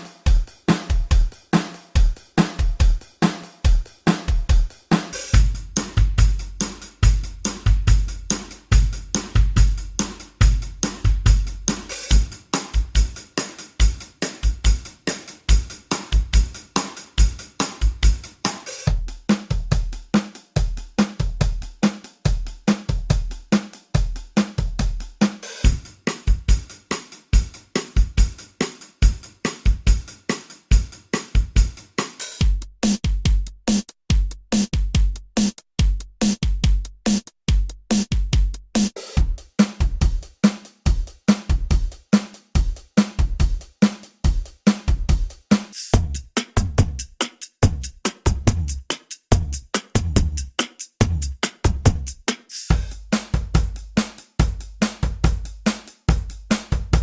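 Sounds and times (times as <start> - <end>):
programmed drum beat: 0.0 - 57.0.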